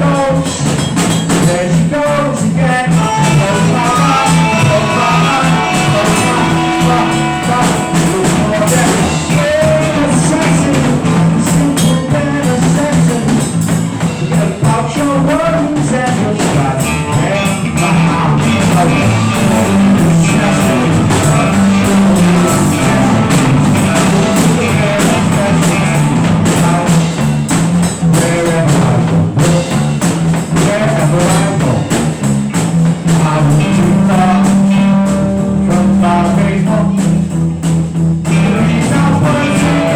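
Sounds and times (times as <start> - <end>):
bass line: 0.0 - 39.9
rock band jamming: 0.0 - 39.9.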